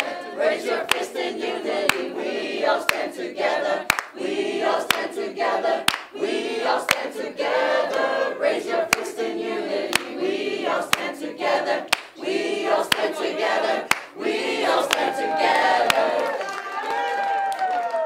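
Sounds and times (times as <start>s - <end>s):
group of voices chanting a cappella: 0.0s - 17.0s.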